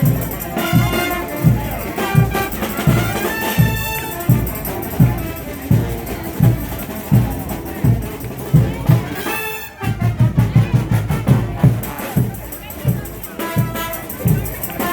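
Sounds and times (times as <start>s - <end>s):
bass drum beating: 0.0s - 14.9s
brass horns: 0.0s - 14.9s.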